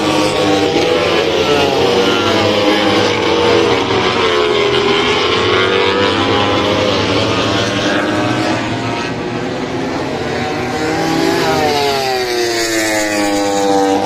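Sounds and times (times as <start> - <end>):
motorcycle passing by: 0.0 - 14.0
racing motorcycle engines: 0.0 - 14.0.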